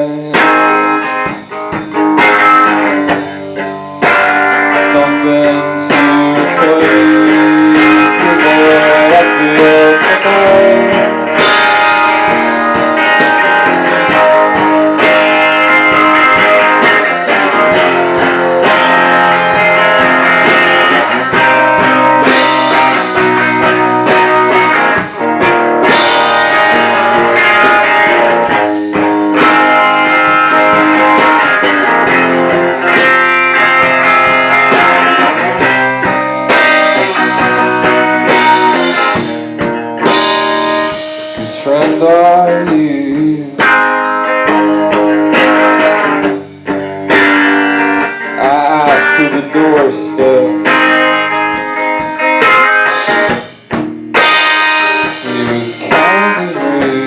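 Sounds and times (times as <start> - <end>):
electric guitar: 0.0 - 57.0
steady drum beat: 0.0 - 57.0.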